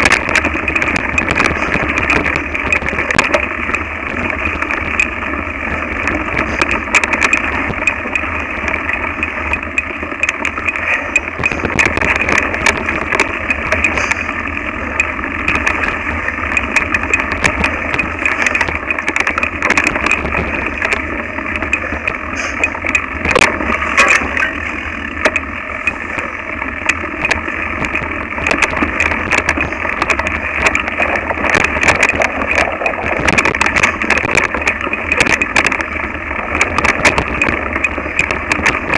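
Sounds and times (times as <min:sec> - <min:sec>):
mountain bike rattling: 0:00.0 - 0:38.9.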